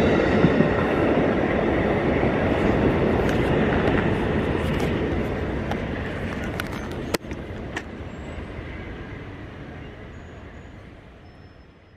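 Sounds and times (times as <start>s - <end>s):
train rumbling past: 0.0s - 11.9s.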